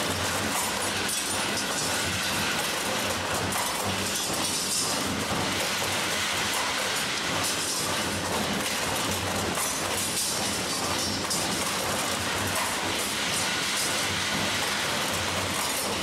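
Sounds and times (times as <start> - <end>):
wire bending machine running: 0.0 - 16.0.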